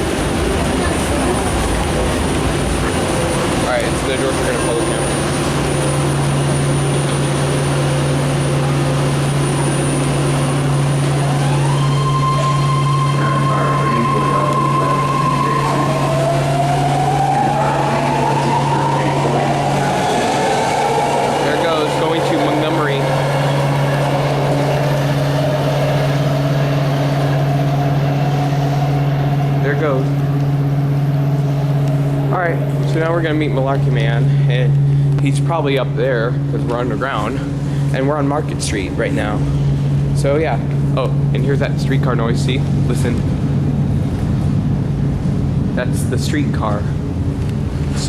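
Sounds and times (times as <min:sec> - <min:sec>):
high steady tones: 0:00.0 - 0:40.6
electric whine rising: 0:00.0 - 0:48.0
train rumbling: 0:00.0 - 0:48.0.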